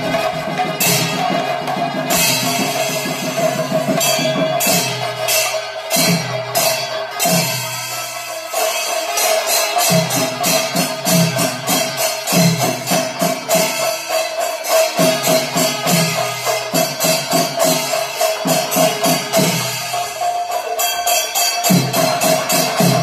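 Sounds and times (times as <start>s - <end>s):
cymbals struck rhythmically: 0.0s - 23.0s
drum strokes: 0.0s - 23.0s.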